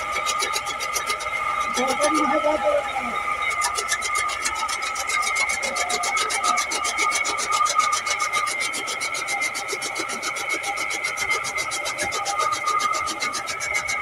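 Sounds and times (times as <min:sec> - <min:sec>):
chaff cutter blades chopping fodder: 0:00.0 - 0:02.6, 0:03.5 - 0:14.0
mechanical whine: 0:00.0 - 0:14.0.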